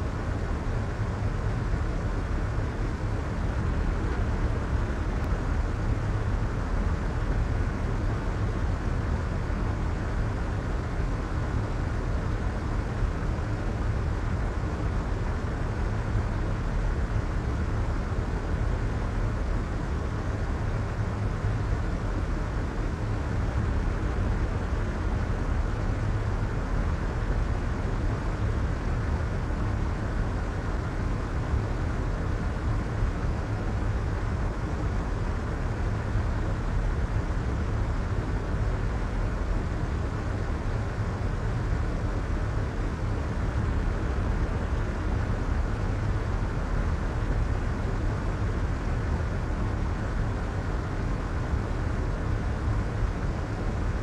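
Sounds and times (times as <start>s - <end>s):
low white noise hiss: 0.0s - 54.0s.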